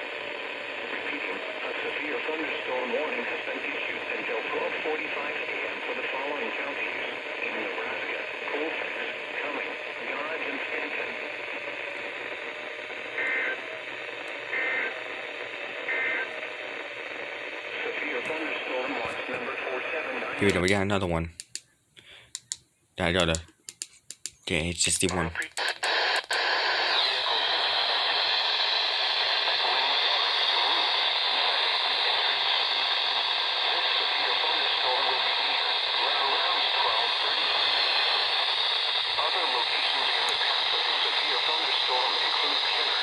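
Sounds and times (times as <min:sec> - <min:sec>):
radio receiver hissing: 0:00.0 - 0:20.7, 0:24.6 - 0:43.0.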